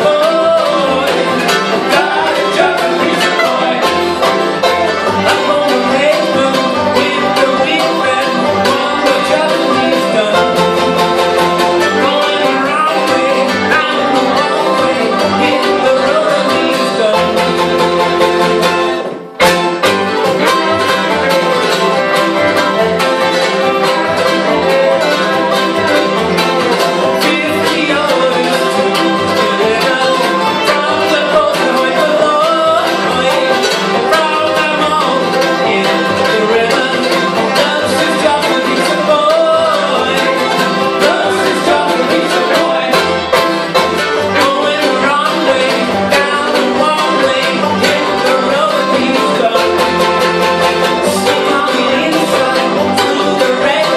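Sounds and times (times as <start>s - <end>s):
man singing: 0.0s - 19.4s, 20.1s - 53.9s
bluegrass band playing: 0.0s - 53.9s.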